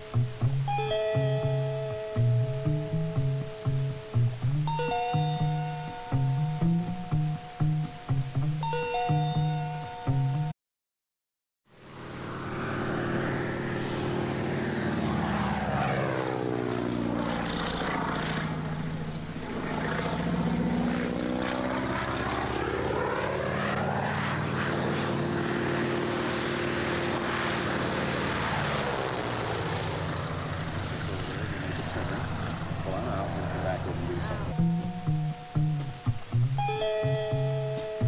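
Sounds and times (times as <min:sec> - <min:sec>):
propeller plane engine droning overhead: 0:00.0 - 0:10.5, 0:11.7 - 0:38.0.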